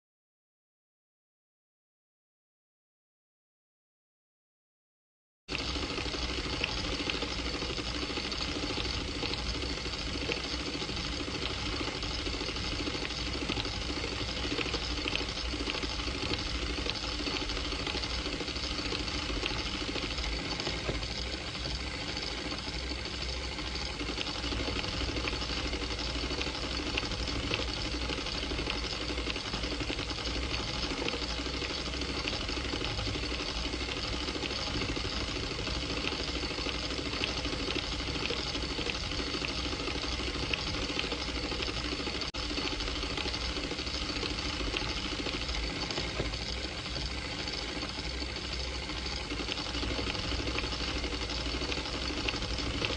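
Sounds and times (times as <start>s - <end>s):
film projector whirring and clattering: 5.5s - 52.9s.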